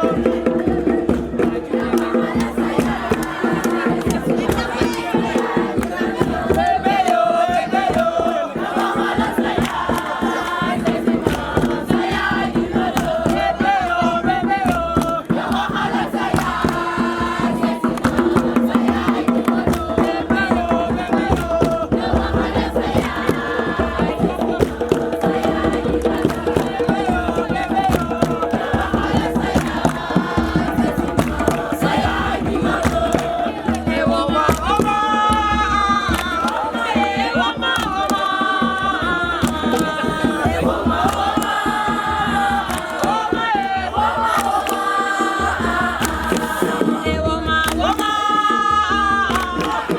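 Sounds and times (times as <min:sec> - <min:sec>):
group singing a chant: 0:00.0 - 0:49.9
percussion beat: 0:00.0 - 0:49.9.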